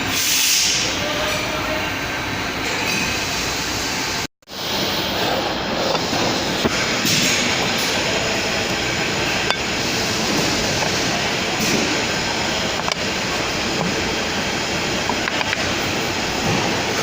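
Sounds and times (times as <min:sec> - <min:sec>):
fabric welding machine running: 0:02.6 - 0:17.0.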